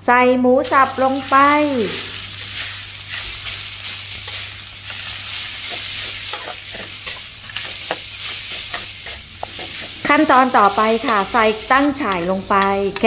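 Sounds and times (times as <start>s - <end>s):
meat sizzling in oil: 0.6s - 13.0s
metal spatula scraping a wok: 0.7s - 12.7s.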